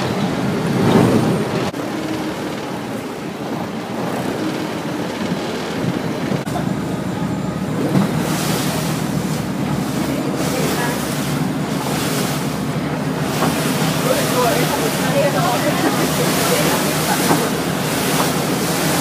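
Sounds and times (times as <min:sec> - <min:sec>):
motorboat engine running: 0:00.0 - 0:19.0
water rushing past hull: 0:00.0 - 0:19.0.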